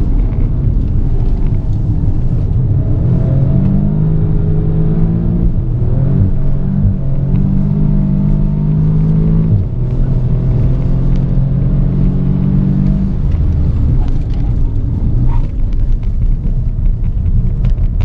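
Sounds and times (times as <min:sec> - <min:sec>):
car engine at full throttle: 0:00.0 - 0:18.0
gear upshift: 0:00.0 - 0:18.0
road and tyre noise: 0:00.0 - 0:18.0.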